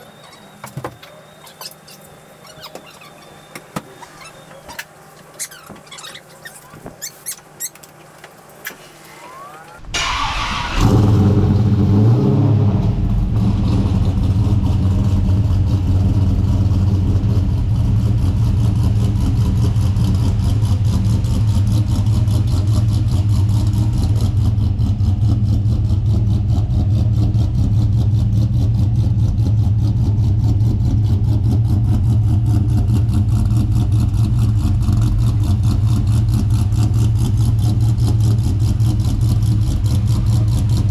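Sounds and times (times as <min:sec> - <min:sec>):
car engine starting and running: 0:00.0 - 0:40.9.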